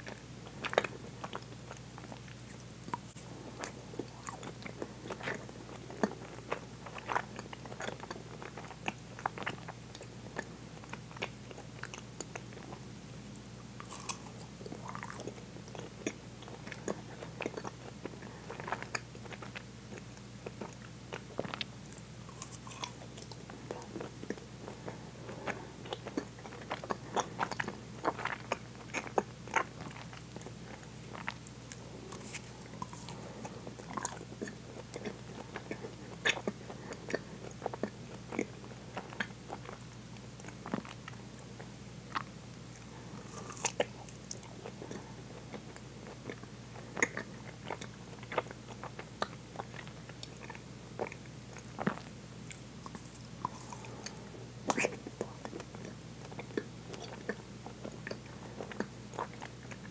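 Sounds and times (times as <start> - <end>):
faint low hum: 0.0 - 59.9
soft mouth sounds: 0.0 - 59.9.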